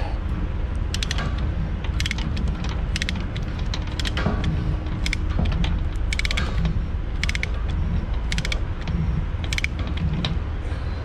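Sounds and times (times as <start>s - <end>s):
steady low rumble: 0.0s - 11.0s
ratchet pawl clicking: 0.7s - 10.4s.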